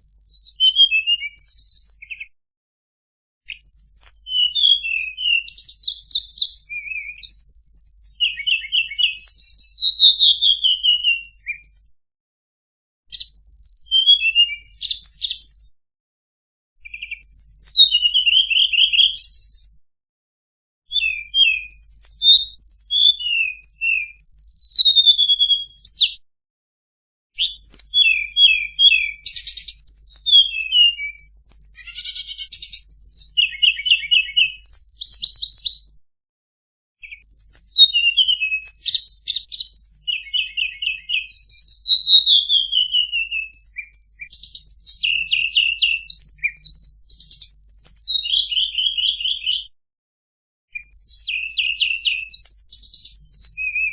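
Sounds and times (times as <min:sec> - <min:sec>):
songbird chirping and trilling: 0:00.0 - 0:02.4, 0:03.5 - 0:11.9, 0:13.1 - 0:15.7, 0:16.8 - 0:19.8, 0:20.9 - 0:26.2, 0:27.4 - 0:36.0, 0:37.0 - 0:49.7, 0:50.8 - 0:53.9.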